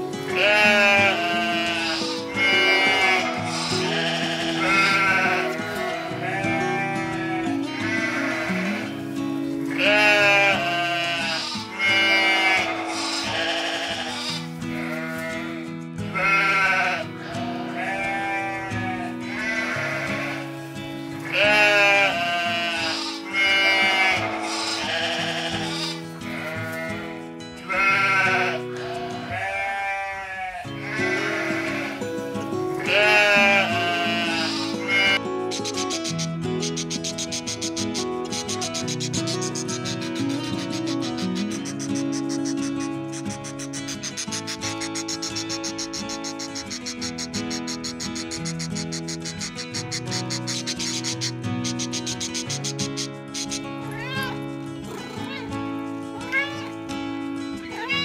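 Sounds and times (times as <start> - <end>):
background music: 0.0 - 58.0
sheep bleating: 0.0 - 58.0.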